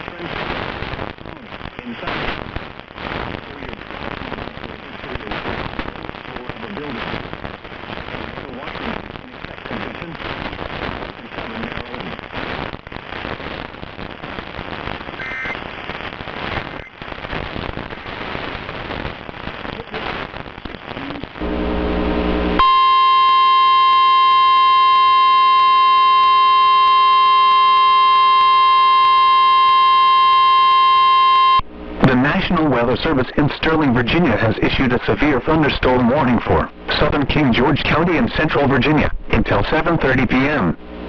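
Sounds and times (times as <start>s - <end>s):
crackling radio static: 0.0s - 41.0s.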